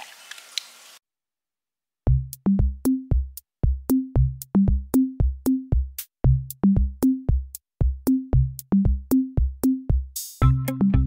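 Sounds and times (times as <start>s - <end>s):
bass line: 2.1s - 11.0s
drum machine beat: 2.1s - 11.0s.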